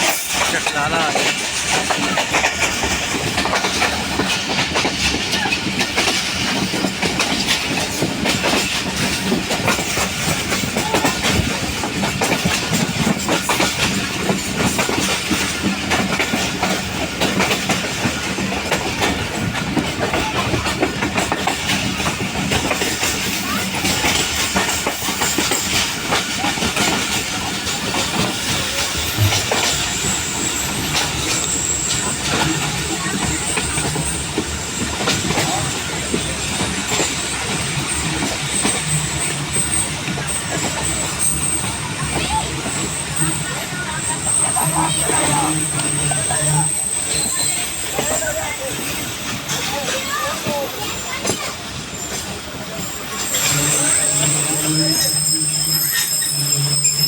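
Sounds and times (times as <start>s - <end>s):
carriages rattling: 0.0s - 57.0s
clickety-clack over rail joints: 0.0s - 57.0s
train wheels rumbling on rail: 0.0s - 57.0s.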